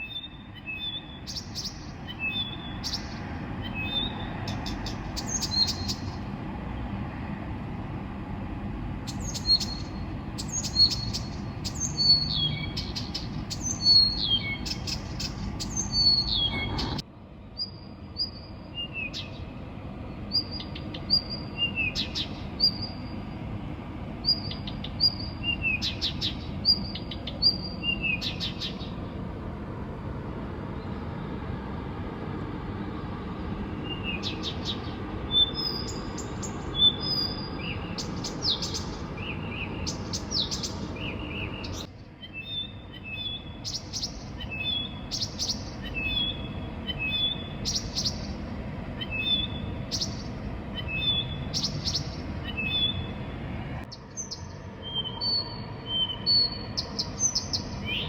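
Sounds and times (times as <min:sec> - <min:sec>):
songbird whistles and trills: 0:00.0 - 0:06.2, 0:09.1 - 0:17.0, 0:17.6 - 0:19.5, 0:20.2 - 0:23.2, 0:24.2 - 0:29.0, 0:33.7 - 0:48.4, 0:49.0 - 0:53.2, 0:54.0 - 0:58.0
low background rumble: 0:01.2 - 0:58.0.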